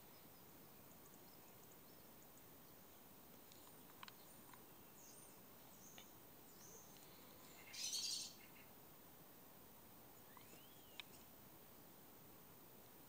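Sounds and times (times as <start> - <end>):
birds chirping: 0.0 - 8.8, 10.1 - 12.1.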